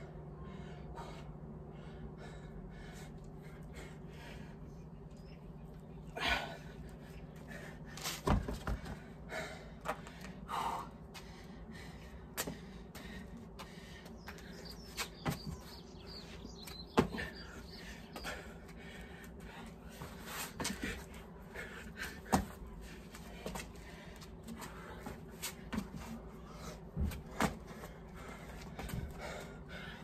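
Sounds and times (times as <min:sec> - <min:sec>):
man breathing hard: 0:00.0 - 0:05.2, 0:06.0 - 0:14.8, 0:17.1 - 0:30.0.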